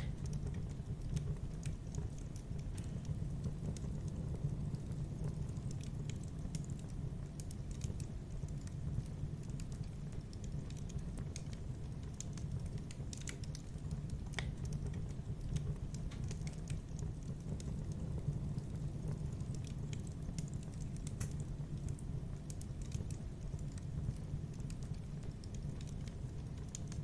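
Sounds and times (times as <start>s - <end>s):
fire pops and snaps: 0.0s - 27.0s
low fire rumble: 0.0s - 27.0s.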